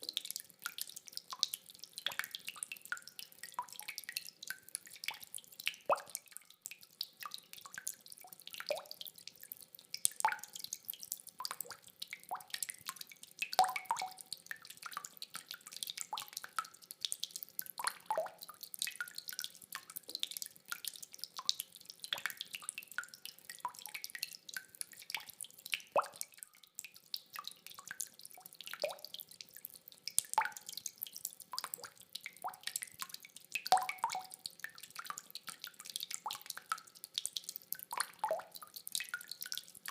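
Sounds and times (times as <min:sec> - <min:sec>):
rainwater dripping: 0:00.0 - 0:39.9.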